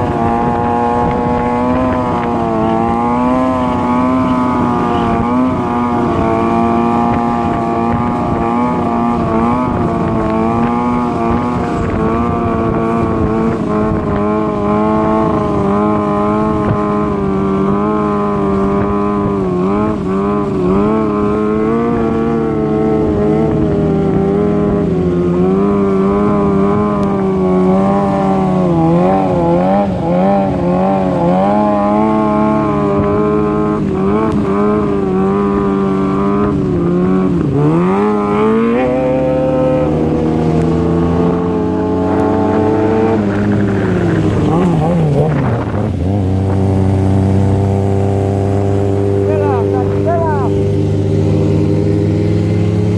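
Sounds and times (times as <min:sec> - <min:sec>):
motorcycle engine at high revs: 0:00.0 - 0:52.9
rushing road noise: 0:00.0 - 0:52.9.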